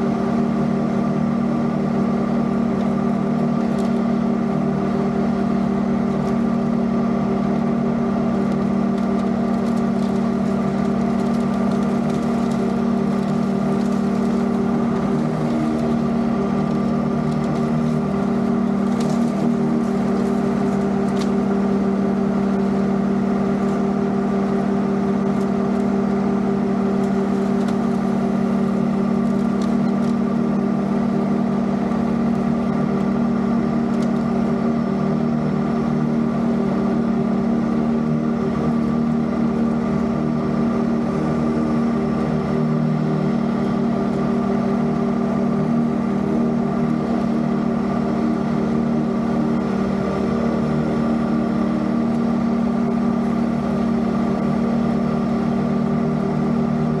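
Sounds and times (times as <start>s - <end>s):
riding mower engine droning: 0.0s - 57.0s.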